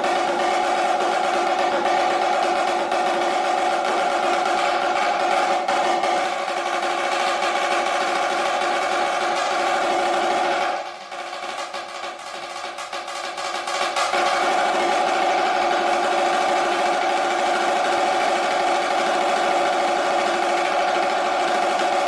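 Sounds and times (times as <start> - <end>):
snare drum roll: 0.0 - 22.0.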